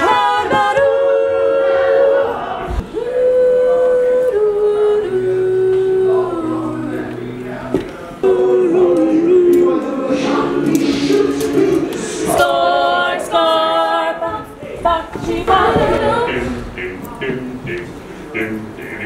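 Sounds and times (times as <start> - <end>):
a cappella choir singing: 0.0 - 17.7.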